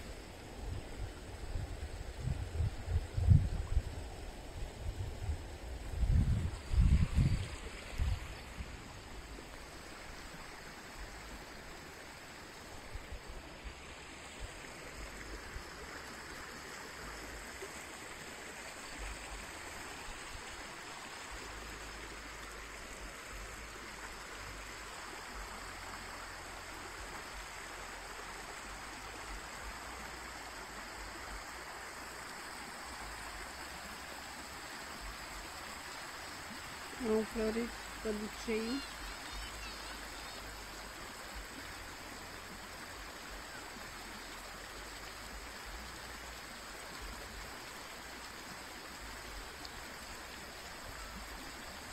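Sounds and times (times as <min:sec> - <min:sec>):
brook babbling over stones: 0:00.0 - 0:51.9.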